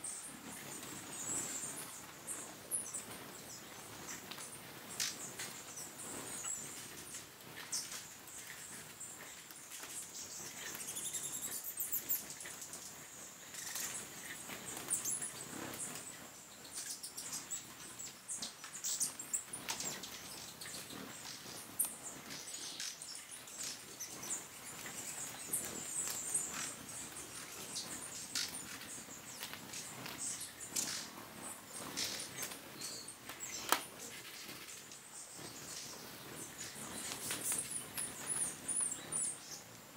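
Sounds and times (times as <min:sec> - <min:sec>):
hummingbirds chipping and twittering: 0:00.0 - 0:39.9
hummingbird wings whirring: 0:00.2 - 0:39.9.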